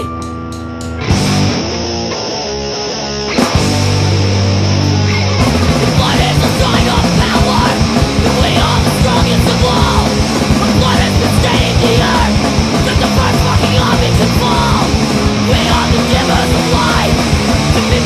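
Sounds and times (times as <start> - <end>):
punk rock band playing: 0.0 - 18.0.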